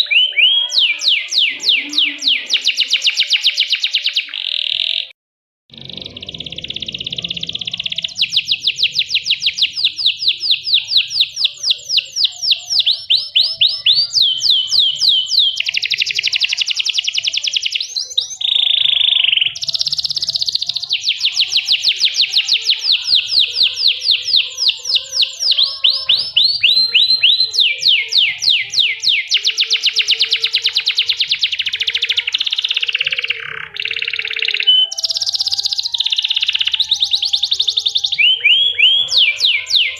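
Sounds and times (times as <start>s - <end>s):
canary singing rapid trills: 0.0s - 5.1s, 5.7s - 39.9s.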